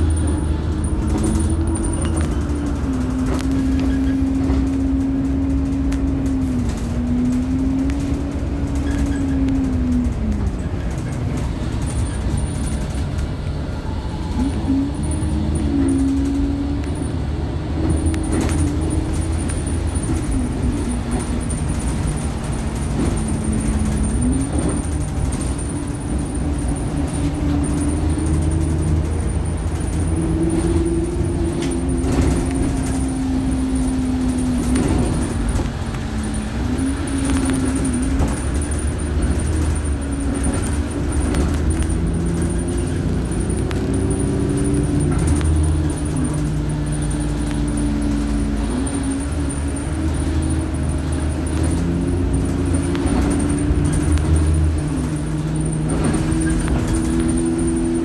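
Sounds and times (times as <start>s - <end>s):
bus engine rumble and whine: 0.0s - 58.0s.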